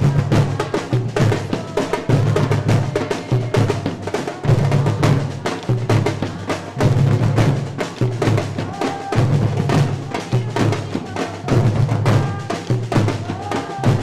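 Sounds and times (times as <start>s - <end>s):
percussion ensemble drumming: 0.0s - 14.0s.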